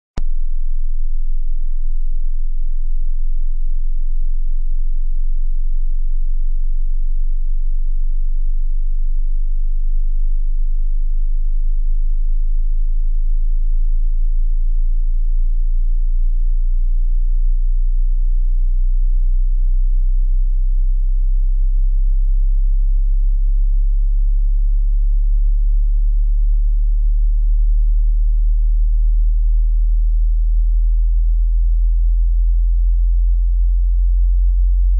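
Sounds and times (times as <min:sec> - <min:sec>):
very low sine tone: 0:00.2 - 0:34.9.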